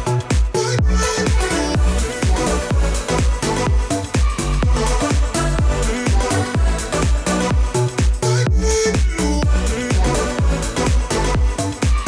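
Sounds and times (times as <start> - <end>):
pop dance music: 0.0 - 12.0.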